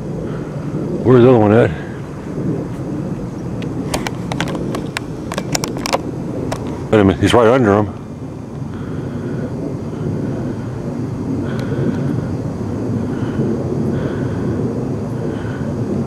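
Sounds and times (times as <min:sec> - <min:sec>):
distant jet aircraft rumbling: 0:00.0 - 0:16.0.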